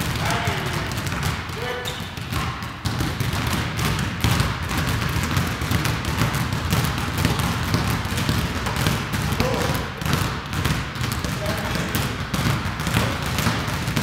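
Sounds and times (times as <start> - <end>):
basketballs dribbling on gym floor: 0.0 - 14.0.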